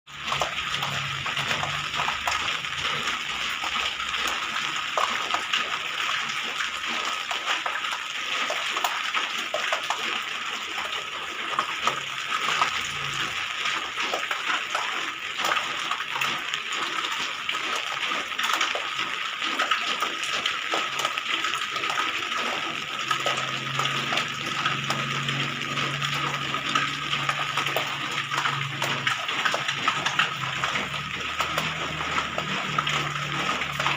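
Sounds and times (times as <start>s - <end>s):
close drips and splashes: 0.1s - 33.9s
rain on roof: 0.1s - 33.9s.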